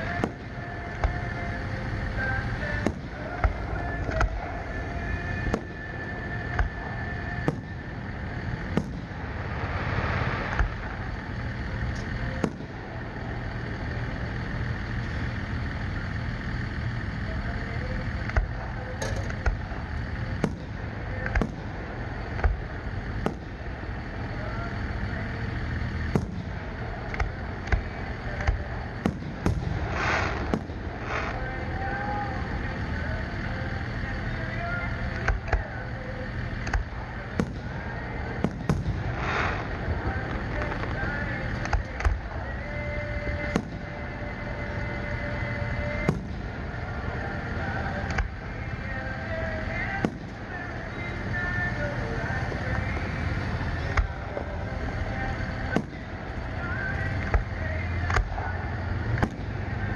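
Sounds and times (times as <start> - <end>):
fireworks bursting with sharp bangs: 0.0 - 59.9
low background rumble: 0.0 - 59.9.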